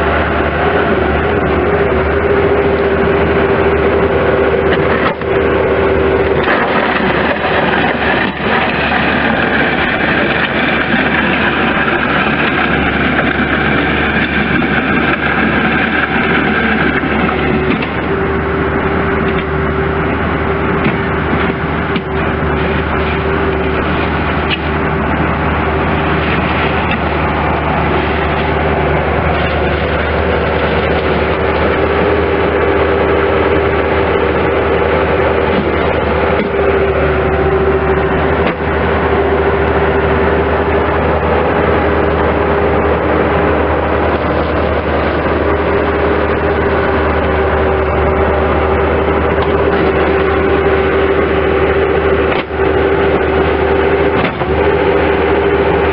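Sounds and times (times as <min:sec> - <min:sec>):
diesel engine running: 0:00.0 - 0:55.9
steady whine: 0:00.0 - 0:55.9.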